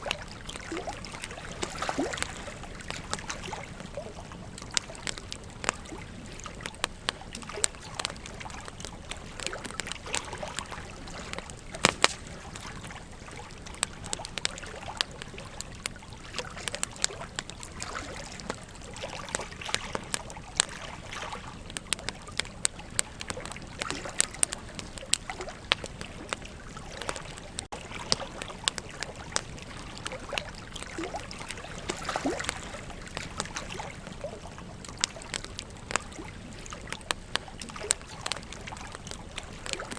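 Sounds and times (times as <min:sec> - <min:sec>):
campfire crackling and popping: 0:00.0 - 0:39.9
flowing river water: 0:00.0 - 0:39.9.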